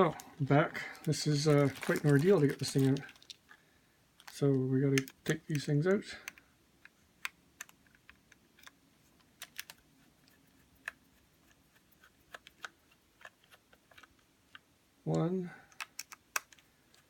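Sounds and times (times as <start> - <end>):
plastic parts handled: 0.0 - 14.7, 15.7 - 17.0.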